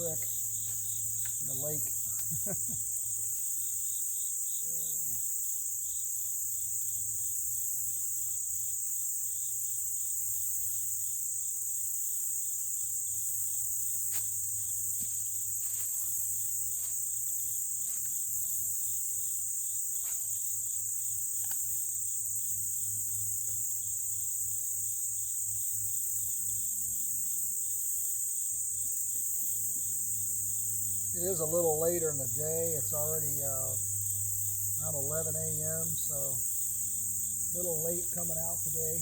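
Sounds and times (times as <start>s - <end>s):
insects chirping chorus: 0.0s - 39.0s
pulsing insect chirp: 0.0s - 39.0s.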